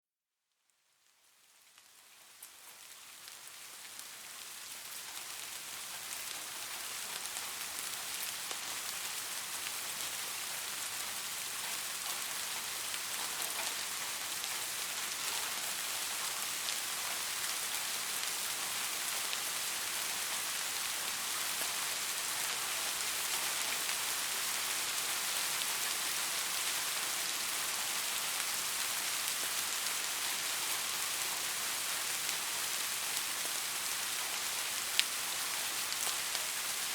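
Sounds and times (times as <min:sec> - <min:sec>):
steady rain falling: 0:00.8 - 0:36.9.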